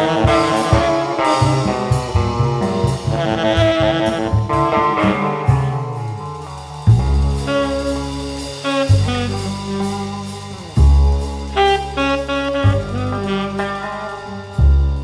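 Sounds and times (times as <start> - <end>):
tenor saxophone playing: 0.0 - 6.2, 7.3 - 15.0
bass: 0.0 - 15.0
drum kit: 0.0 - 15.0.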